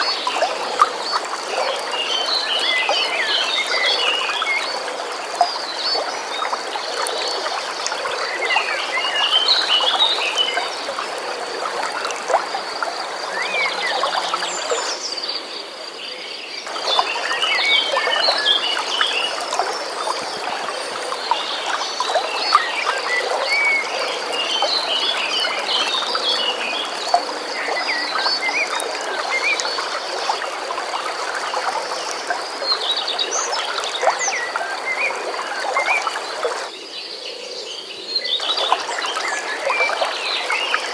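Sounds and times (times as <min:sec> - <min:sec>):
flowing stream: 0:00.0 - 0:40.9.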